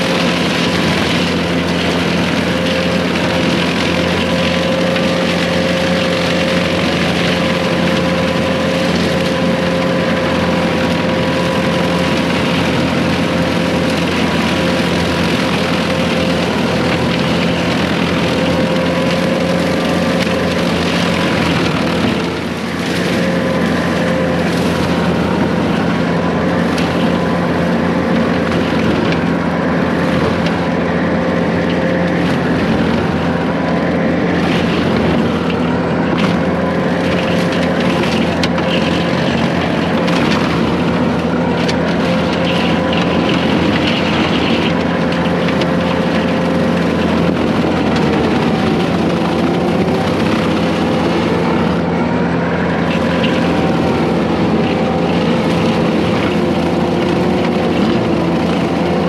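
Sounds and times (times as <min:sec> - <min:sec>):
brush cutter cutting brush: 0:00.0 - 0:59.0
excavator diesel engine running: 0:00.0 - 0:59.0.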